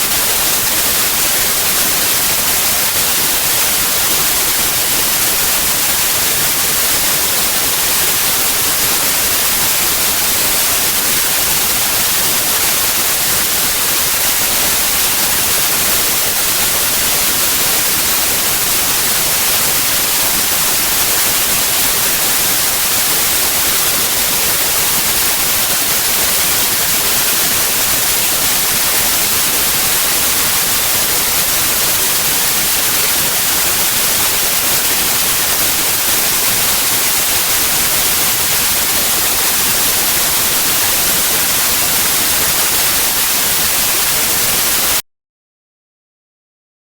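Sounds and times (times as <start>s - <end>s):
white noise hiss: 0.0s - 45.0s.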